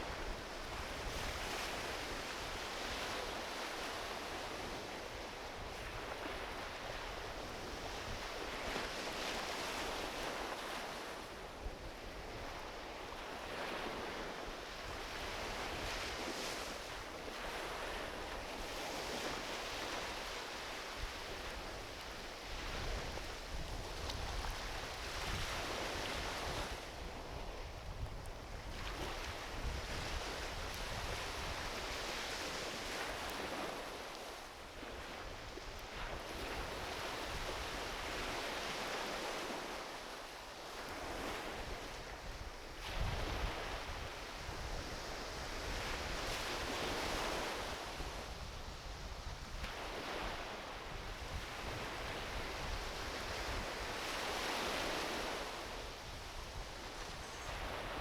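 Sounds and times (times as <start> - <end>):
small waves washing onto beach: 0.0 - 58.0.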